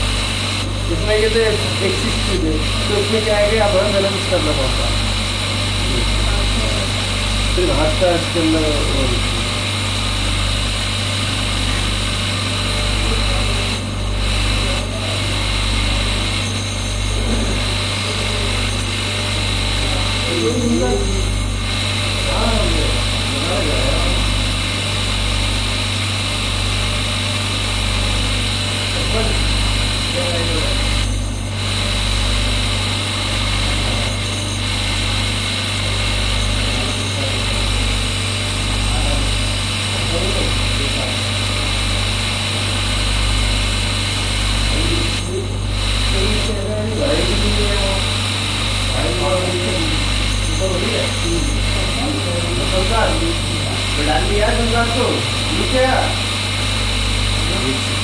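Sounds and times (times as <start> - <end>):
grinding wheel motor humming: 0.0 - 58.0.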